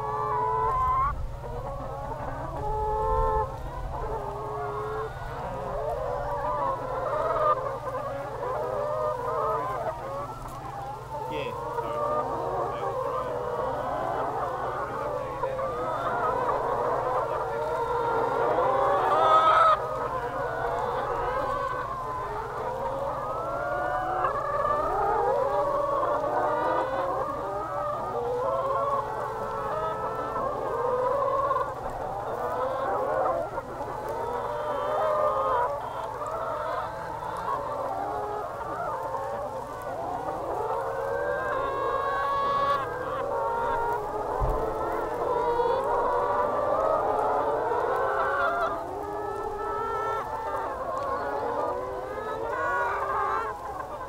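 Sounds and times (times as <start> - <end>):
hens clucking and calling: 0.0 - 54.0.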